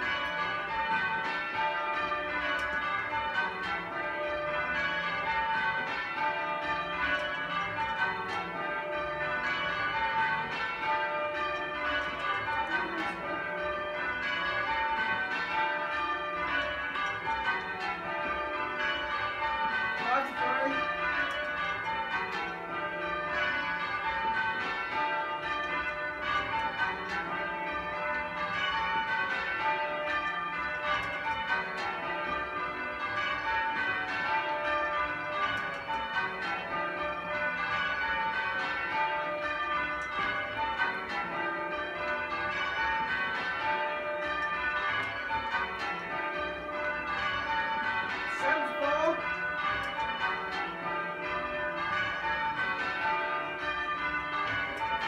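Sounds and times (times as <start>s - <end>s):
church bells ringing: 0.0s - 55.0s.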